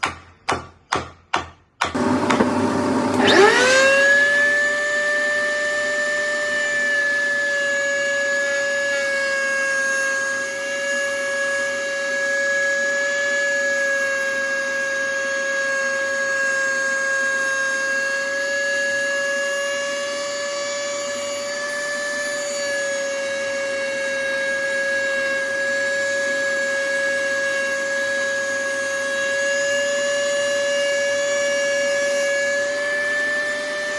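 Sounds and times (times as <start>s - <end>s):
electric router motor whine: 2.0s - 33.9s.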